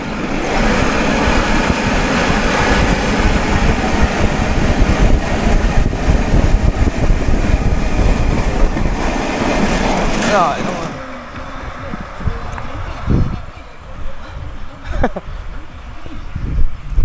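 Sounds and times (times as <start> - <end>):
vehicle rumbling and rushing: 0.0 - 17.0.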